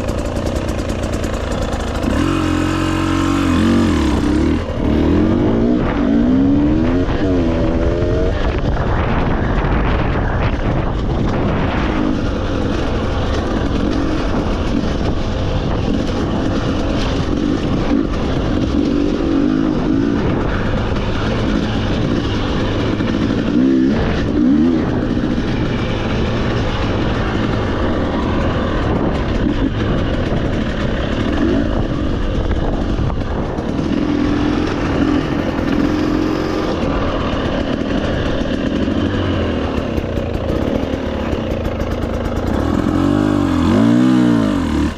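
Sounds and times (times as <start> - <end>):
motorcycle engine revving: 0.0 - 44.9
steady rushing noise: 0.0 - 44.9.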